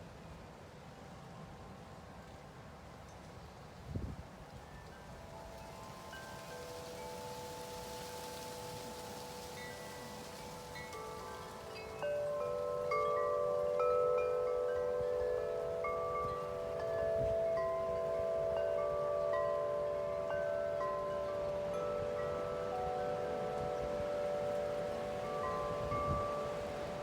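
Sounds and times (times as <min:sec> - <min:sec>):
wind noise: 0:03.7 - 0:27.0
wind chimes ringing: 0:04.4 - 0:27.0.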